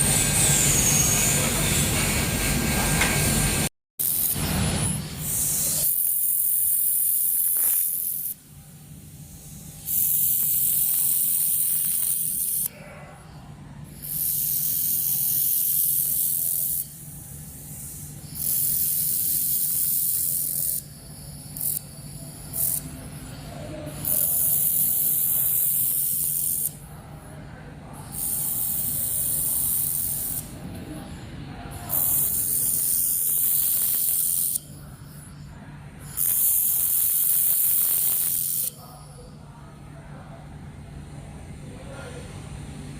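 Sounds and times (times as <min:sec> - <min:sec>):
laser welder hissing: 0:00.0 - 0:12.7, 0:14.0 - 0:26.8, 0:28.0 - 0:30.6, 0:31.7 - 0:35.4, 0:36.0 - 0:38.9.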